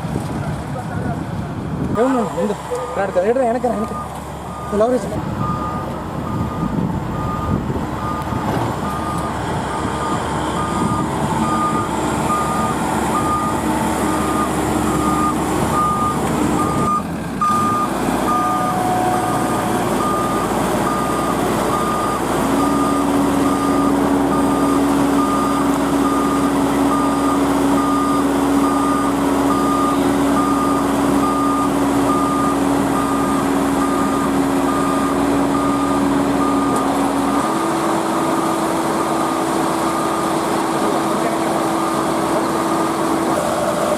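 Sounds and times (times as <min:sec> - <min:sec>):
diesel engine running: 0:00.0 - 0:43.9
reversing alarm beeping: 0:02.7 - 0:43.9.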